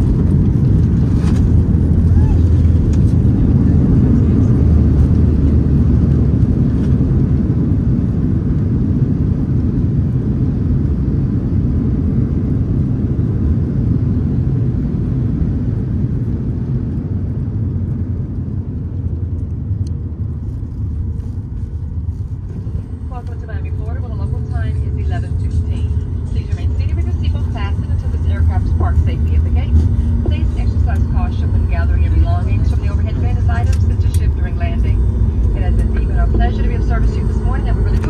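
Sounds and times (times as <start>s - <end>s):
airplane cabin rumble: 0.0s - 38.0s.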